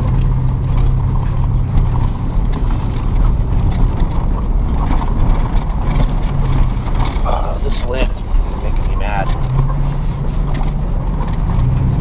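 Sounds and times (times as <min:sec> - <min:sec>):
small clicks and rattles: 0:00.0 - 0:07.3, 0:08.0 - 0:12.0
truck engine and road rumble: 0:00.0 - 0:12.0.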